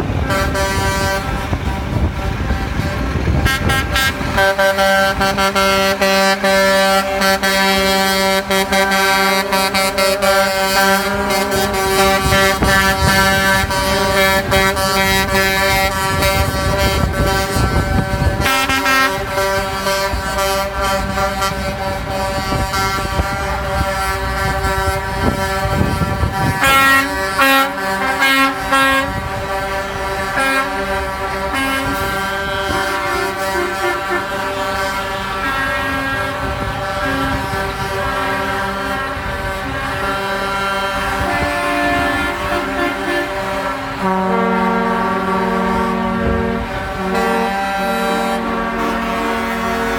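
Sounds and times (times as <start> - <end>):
diesel engine rumble: 0.0 - 49.9
truck air horns blasting: 0.0 - 49.9.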